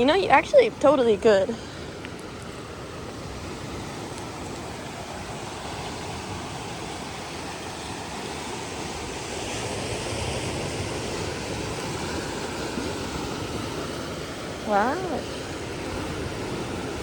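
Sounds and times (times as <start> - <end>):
waves washing against rocky shore: 0.0 - 17.0.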